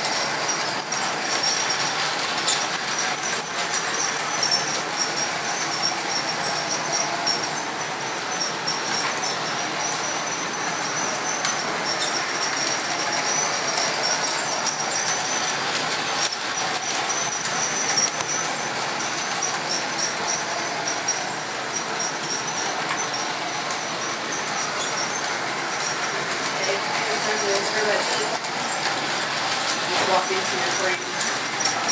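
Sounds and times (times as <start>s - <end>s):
model train wheels rumbling on rail: 0.0s - 31.9s
high-pitched wheel squeal: 2.5s - 31.9s.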